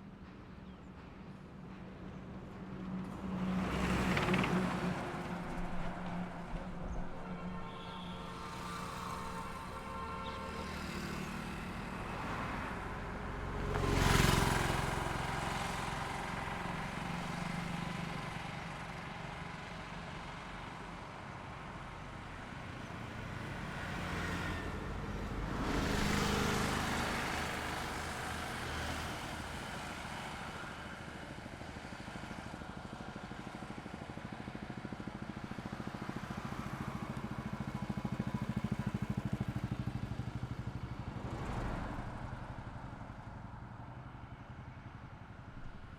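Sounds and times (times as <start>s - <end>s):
vehicles passing on highway: 0.0s - 45.9s.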